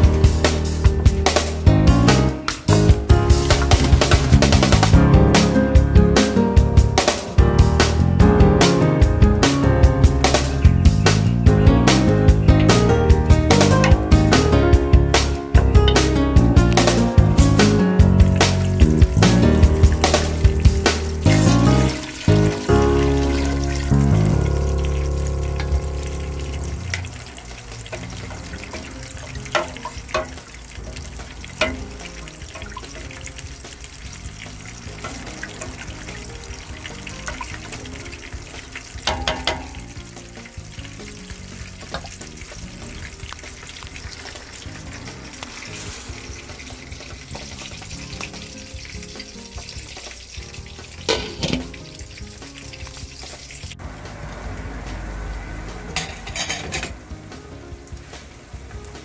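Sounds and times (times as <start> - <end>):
soup simmering and bubbling: 9.9 - 59.0.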